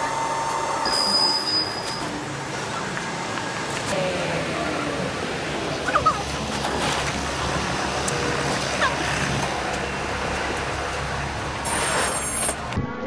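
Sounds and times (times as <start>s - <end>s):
bus diesel engine rumbling: 0.0s - 12.7s
road traffic noise: 0.0s - 12.8s.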